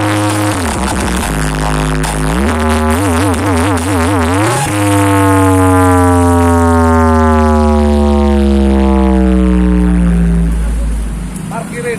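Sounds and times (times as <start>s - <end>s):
long synth tone: 0.0s - 11.3s
wobbling synth tone: 0.0s - 11.3s
heavy bass sliding down: 0.0s - 11.4s.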